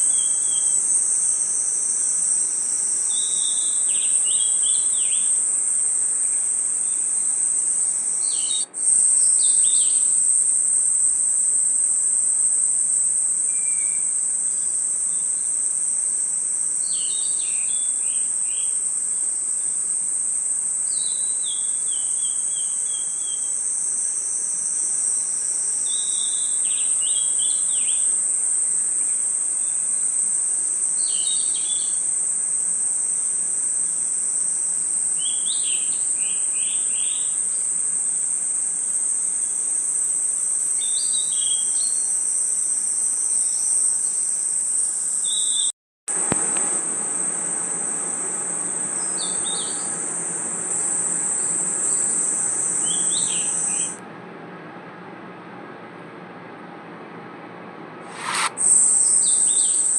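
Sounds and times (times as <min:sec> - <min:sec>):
crickets trilling: 0:00.0 - 0:54.0, 0:58.1 - 0:59.9
higher insect chirps: 0:00.0 - 0:54.0, 0:58.1 - 0:59.9.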